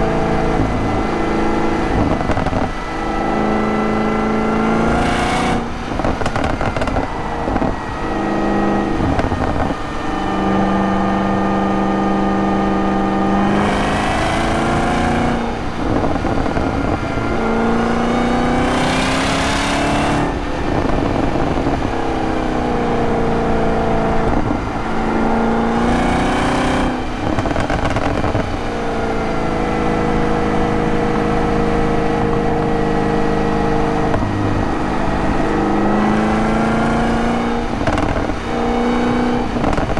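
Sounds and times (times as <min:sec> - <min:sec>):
car engine revving on road: 0:00.0 - 0:39.9.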